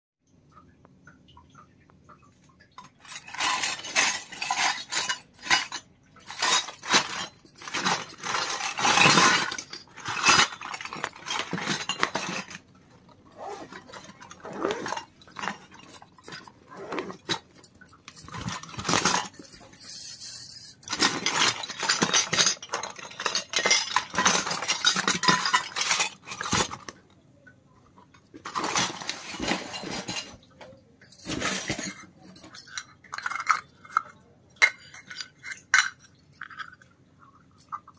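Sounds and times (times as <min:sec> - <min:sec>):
small metal utensils clinking: 0:02.5 - 0:37.9.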